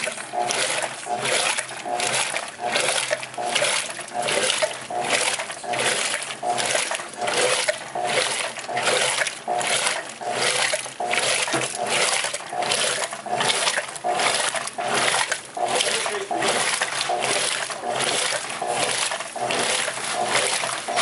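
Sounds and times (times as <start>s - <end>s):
washing machine agitating: 0.0s - 21.0s
water sloshing in a tub: 0.0s - 21.0s.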